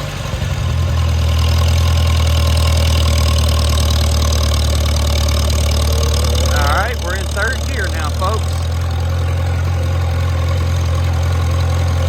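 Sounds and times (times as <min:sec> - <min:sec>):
tractor engine accelerating: 0:00.0 - 0:12.0.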